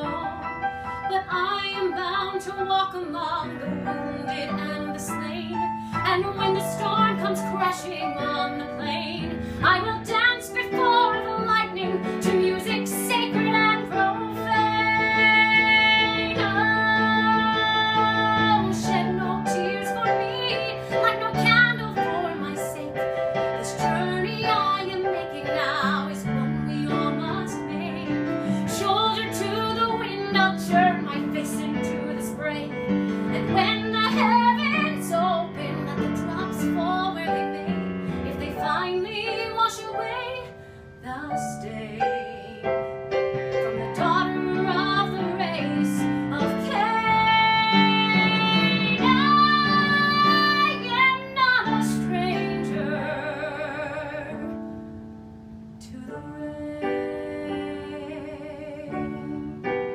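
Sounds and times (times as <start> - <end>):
woman singing a ballad: 0.0 - 59.9.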